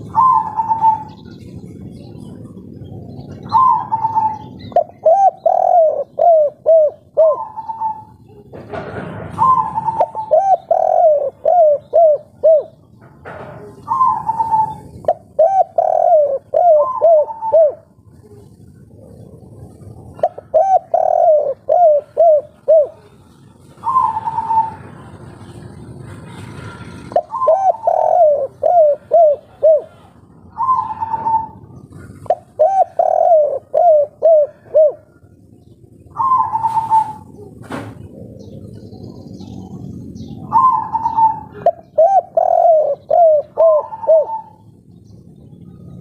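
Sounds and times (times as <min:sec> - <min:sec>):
dove cooing: 0:00.0 - 0:26.2, 0:26.8 - 0:46.0.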